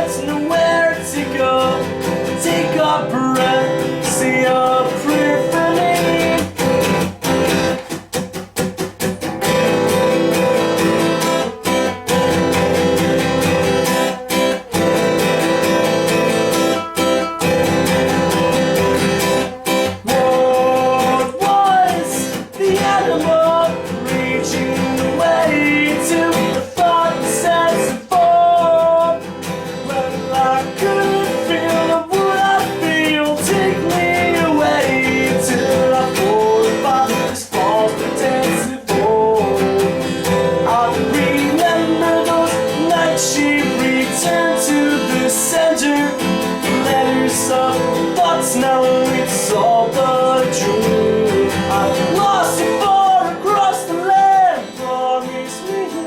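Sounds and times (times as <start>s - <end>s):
acoustic guitar strumming: 0.0s - 56.0s
guitar melody line: 0.0s - 56.0s.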